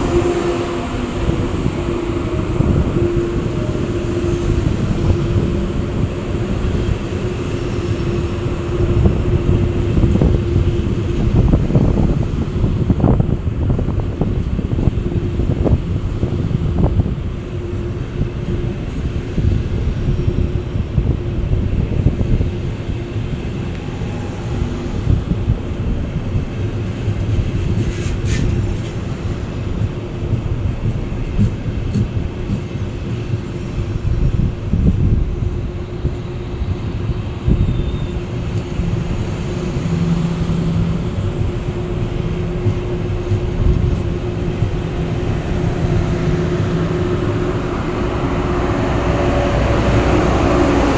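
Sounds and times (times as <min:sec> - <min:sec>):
constant hum: 0:00.0 - 0:50.9
electric train rumbling: 0:00.0 - 0:50.9.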